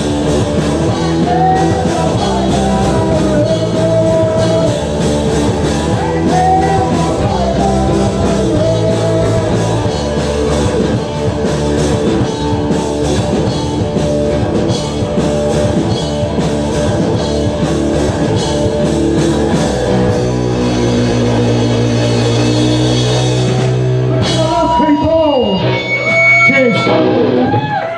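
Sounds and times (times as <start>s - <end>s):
live rock band playing: 0.0s - 27.9s.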